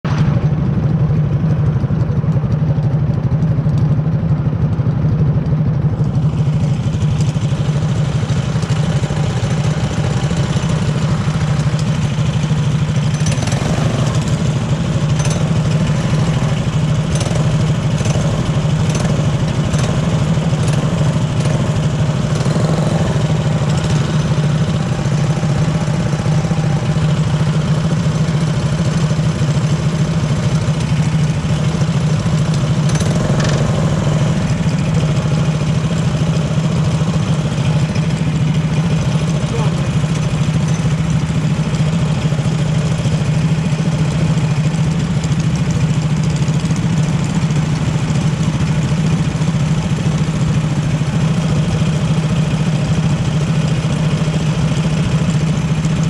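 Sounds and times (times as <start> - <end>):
race car engine idling: 0.0 - 56.0.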